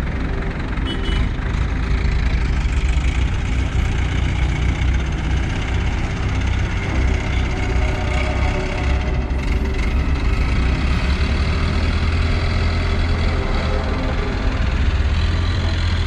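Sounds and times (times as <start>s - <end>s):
heavy engine idling: 0.0s - 16.0s.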